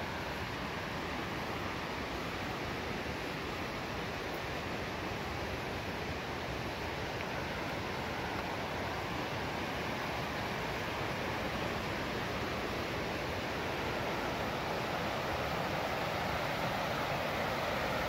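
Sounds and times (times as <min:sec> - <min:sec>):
whitewater river rushing: 0:00.0 - 0:18.0.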